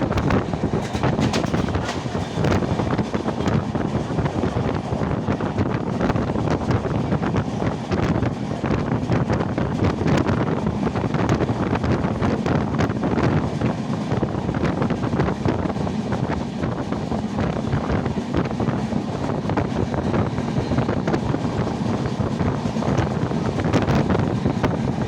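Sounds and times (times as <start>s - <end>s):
train wheels rumbling on rails: 0.0s - 25.0s
wind buffeting microphone: 0.0s - 25.0s.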